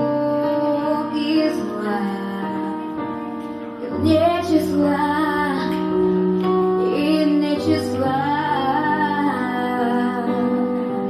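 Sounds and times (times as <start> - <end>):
woman singing a ballad: 0.0 - 11.0.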